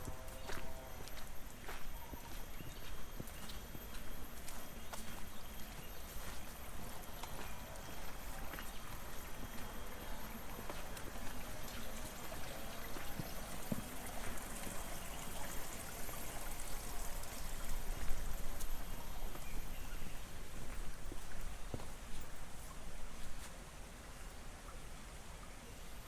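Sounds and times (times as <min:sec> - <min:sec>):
water trickling in a channel: 0:00.0 - 0:26.0.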